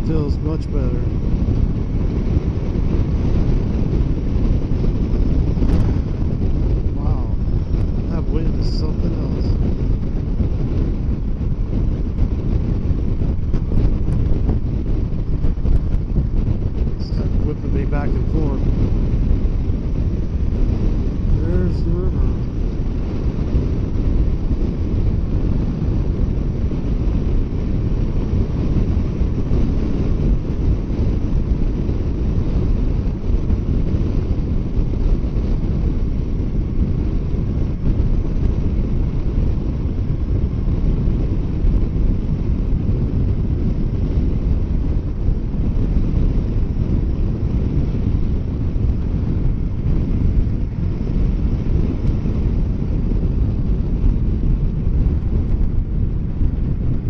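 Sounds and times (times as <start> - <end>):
motorcycle running: 0.0 - 57.0
wind buffeting microphone: 0.0 - 57.0.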